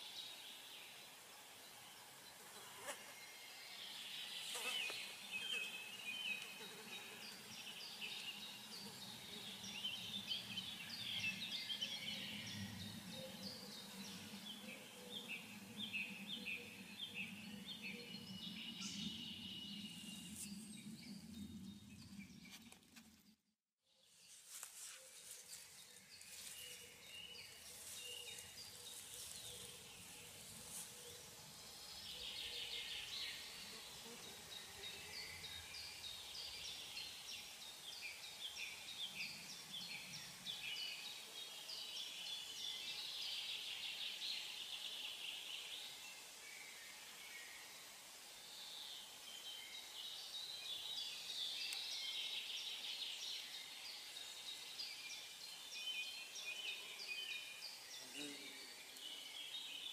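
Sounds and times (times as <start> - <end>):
small birds singing: 0.0 - 23.3, 23.9 - 59.9
low background noise: 0.0 - 59.9.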